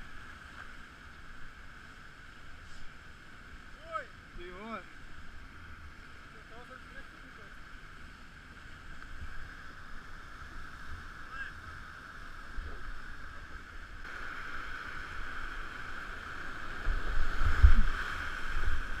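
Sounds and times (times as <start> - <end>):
muffled whitewater roar: 0.0 - 19.0.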